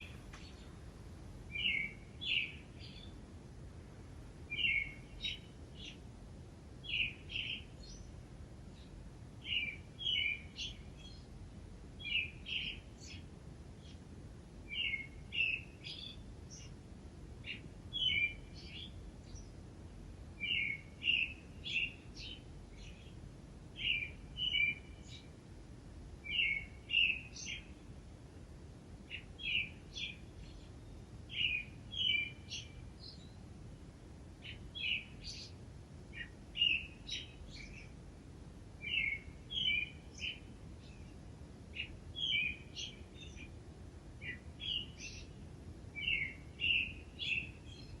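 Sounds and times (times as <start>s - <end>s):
faint background hum: 0.0s - 48.0s
songbird chirping: 0.0s - 48.0s.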